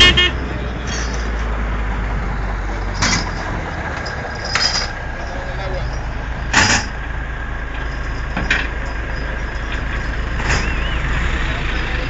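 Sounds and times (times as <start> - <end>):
motor vehicles rumbling: 0.0 - 12.0
road noise: 0.0 - 12.0.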